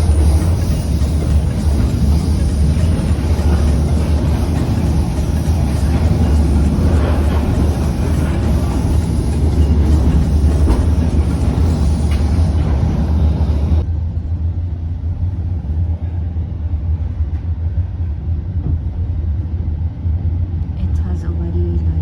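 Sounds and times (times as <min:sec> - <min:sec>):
train rumble with light clatter: 0:00.0 - 0:22.0.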